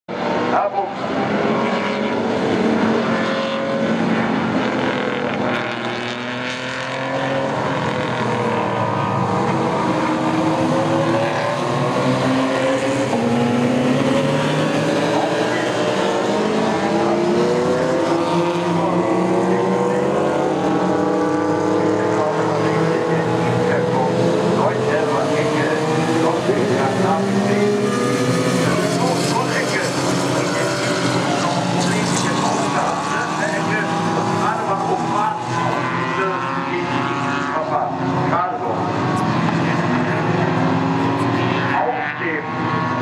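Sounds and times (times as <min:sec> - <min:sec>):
race car engines revving: 0:00.1 - 0:43.0.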